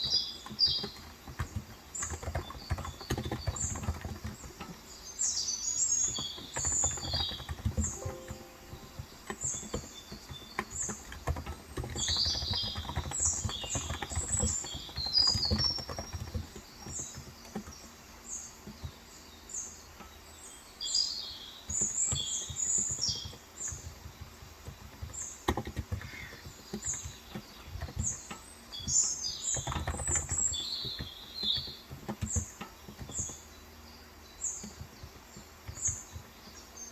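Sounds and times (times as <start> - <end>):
soft keyboard typing: 0.0 - 19.1, 21.6 - 33.7, 34.5 - 36.9
small birds chirping: 0.0 - 36.9.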